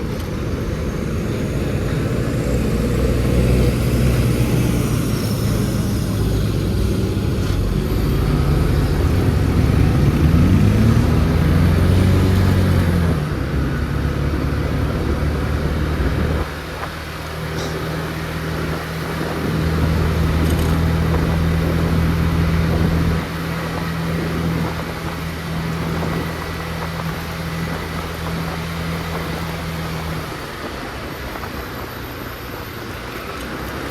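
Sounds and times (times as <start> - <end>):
motor scooter engine running: 0.0 - 33.9
road noise: 0.0 - 33.9.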